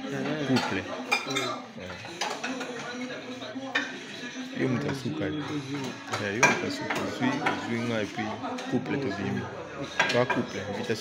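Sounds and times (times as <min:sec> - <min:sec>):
utensils clinking on plates: 0:00.0 - 0:11.0.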